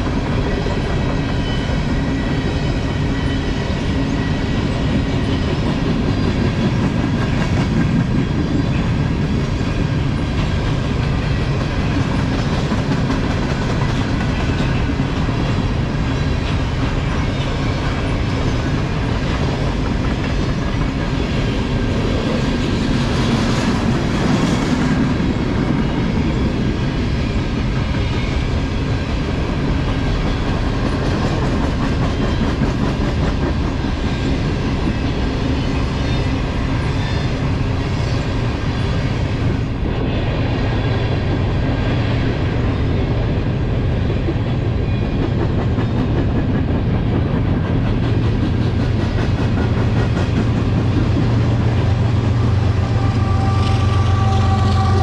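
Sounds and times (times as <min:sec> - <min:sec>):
diesel locomotive engine drone: 0:00.0 - 0:55.0
train wheels rumbling and clicking: 0:00.0 - 0:55.0.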